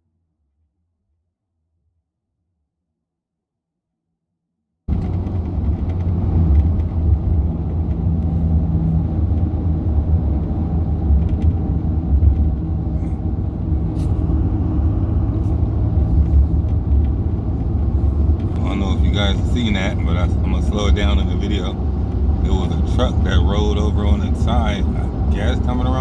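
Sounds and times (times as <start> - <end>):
truck engine and tyres droning: 4.9 - 26.0.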